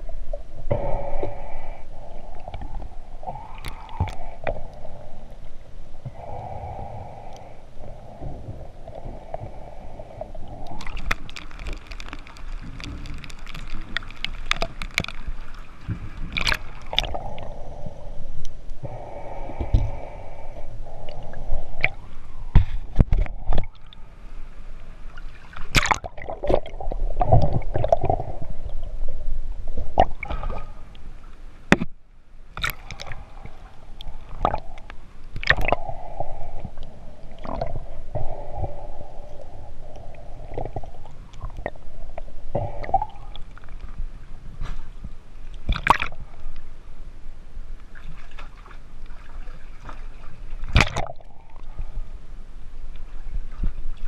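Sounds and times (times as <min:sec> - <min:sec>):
water gurgling and sloshing: 0:00.0 - 0:54.0.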